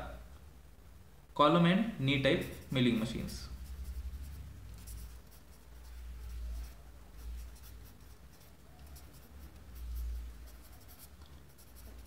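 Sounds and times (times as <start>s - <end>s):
marker scratching on paper: 2.3s - 12.0s.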